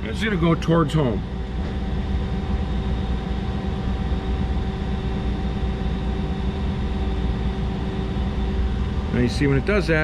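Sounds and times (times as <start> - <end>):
lathe mechanical hum: 0.0 - 10.0.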